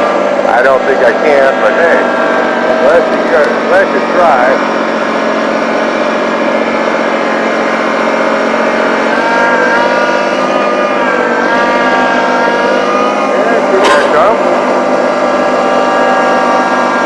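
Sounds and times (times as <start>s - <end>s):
tractor engine straining: 0.0s - 17.0s.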